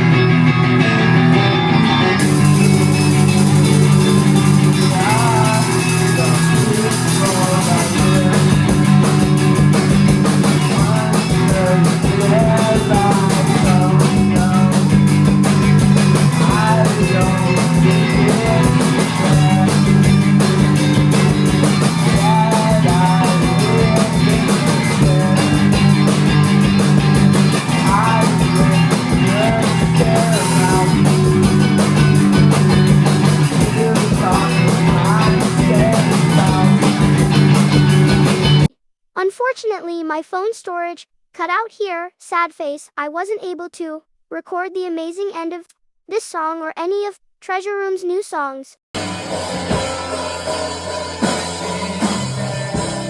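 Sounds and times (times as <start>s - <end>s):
rock band playing live: 0.0s - 38.7s, 49.0s - 53.0s.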